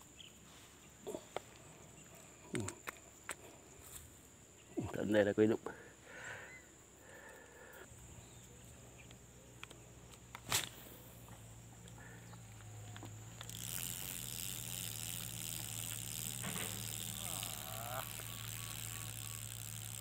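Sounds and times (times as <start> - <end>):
insects buzzing in trees: 0.0 - 20.0.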